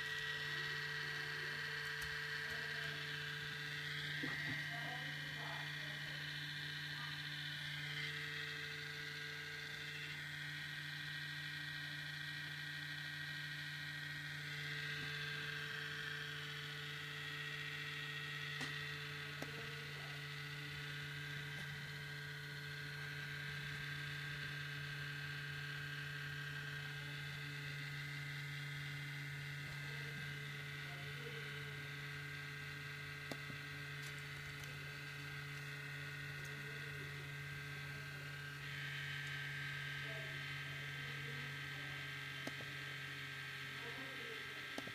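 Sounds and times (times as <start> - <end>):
high whining tones: 0.0 - 42.9
laptop steady hum: 0.0 - 44.9.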